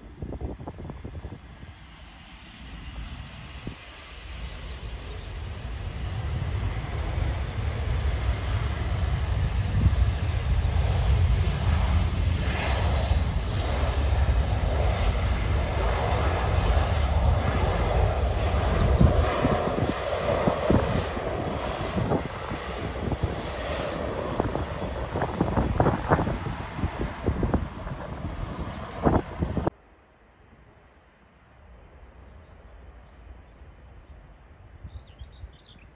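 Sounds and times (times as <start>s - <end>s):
jet engines rumbling: 0.0s - 29.8s.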